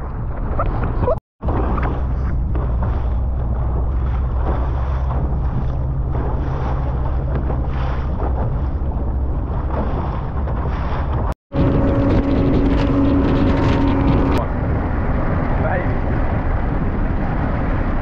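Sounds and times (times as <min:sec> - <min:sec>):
wind buffeting microphone: 0:00.0 - 0:18.0
boat motor droning: 0:01.4 - 0:18.0
water rushing: 0:01.4 - 0:18.0.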